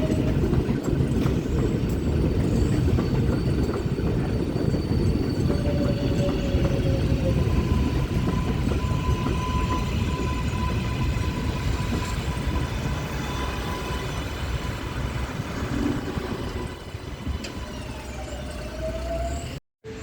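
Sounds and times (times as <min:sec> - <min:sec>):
subway train rumbling past: 0:00.0 - 0:20.0.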